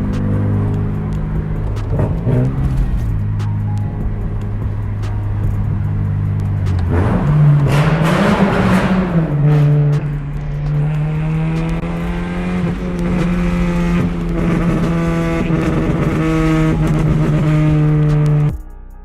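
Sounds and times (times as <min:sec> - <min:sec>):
loud car engine and exhaust: 0:00.0 - 0:18.5.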